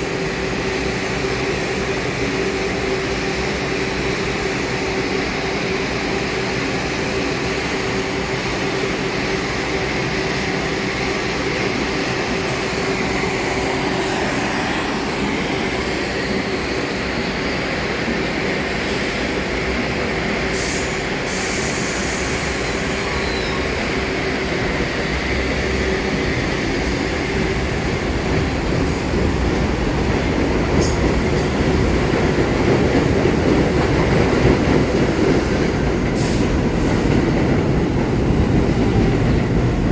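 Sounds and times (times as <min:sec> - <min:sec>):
train rail rumble: 0:00.0 - 0:39.9.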